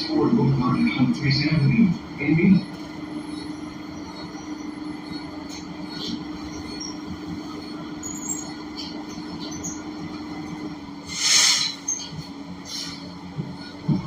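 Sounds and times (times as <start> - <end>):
bus engine hum: 0.0 - 14.0
road noise: 0.0 - 14.0.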